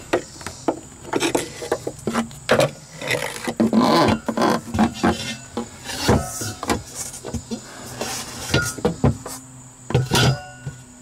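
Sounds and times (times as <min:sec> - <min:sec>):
knocks and scraping on wooden countertop: 0:00.1 - 0:10.8.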